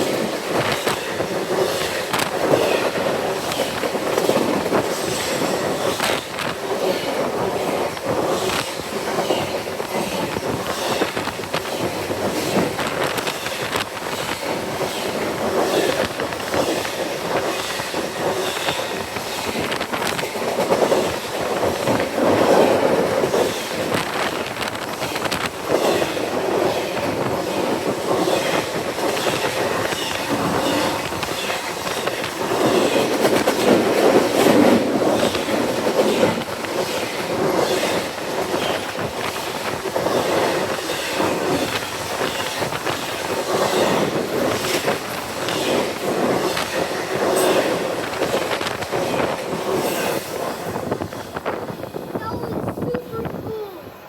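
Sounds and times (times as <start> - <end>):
wheels clacking over rail joints: 0.0 - 51.8
train rumbling past: 0.0 - 54.0.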